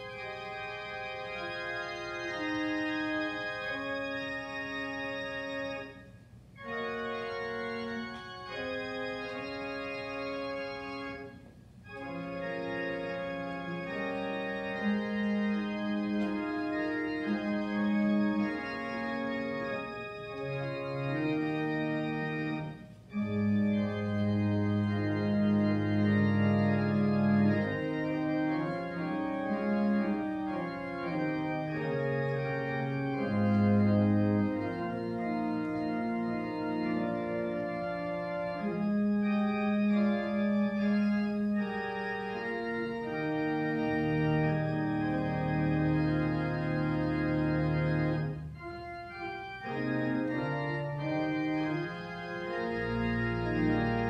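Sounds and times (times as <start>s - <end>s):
organ playing slow chords: 0.0s - 54.0s.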